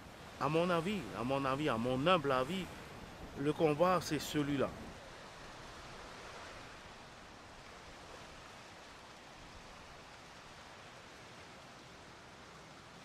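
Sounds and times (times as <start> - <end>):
beach ambience hiss: 0.0 - 13.0.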